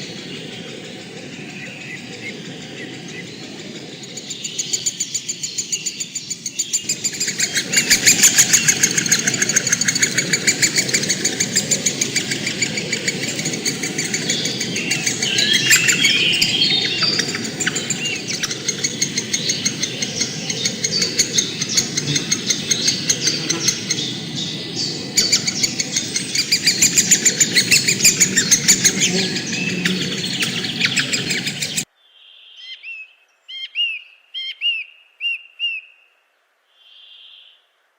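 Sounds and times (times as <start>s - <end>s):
birds chirping and chattering: 0.0s - 31.9s.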